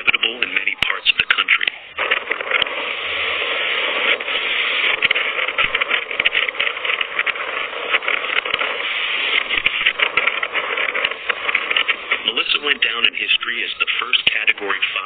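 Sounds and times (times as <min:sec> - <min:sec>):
crackles: 0:00.0 - 0:15.0
hurricane wind and rain roaring: 0:00.0 - 0:15.0.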